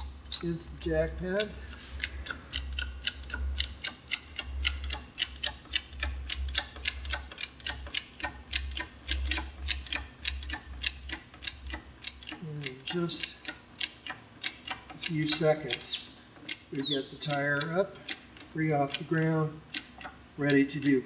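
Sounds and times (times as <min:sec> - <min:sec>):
sharp metallic clicks: 0:00.0 - 0:21.0.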